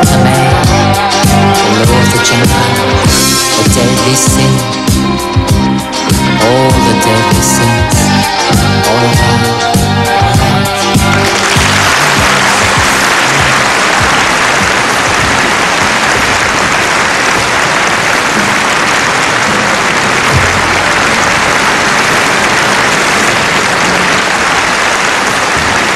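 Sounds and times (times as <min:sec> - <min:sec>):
audience applauding: 0:00.0 - 0:04.6, 0:06.1 - 0:25.9
backing music: 0:00.0 - 0:25.9.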